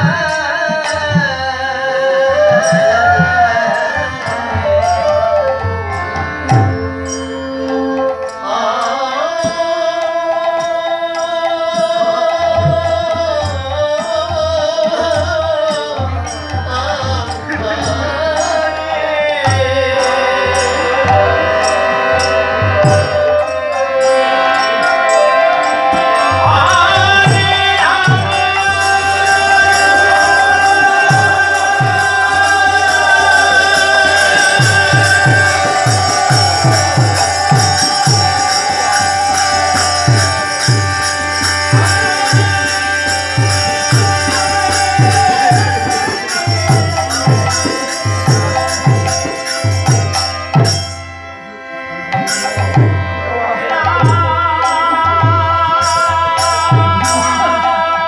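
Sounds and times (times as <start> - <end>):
jingling hand cymbals: 0.0 - 51.3, 52.1 - 53.0, 53.9 - 58.0
violin melody: 1.8 - 10.3, 15.8 - 55.1.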